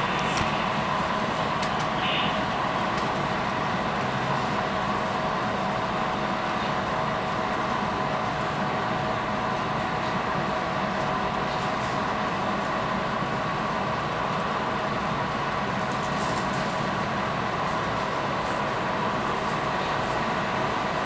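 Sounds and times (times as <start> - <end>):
model trains rolling hum: 0.0 - 21.0.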